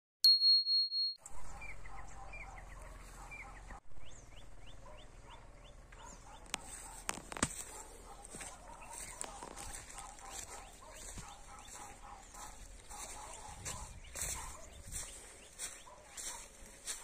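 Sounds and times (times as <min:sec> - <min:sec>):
birds chirping: 0:01.3 - 0:17.0.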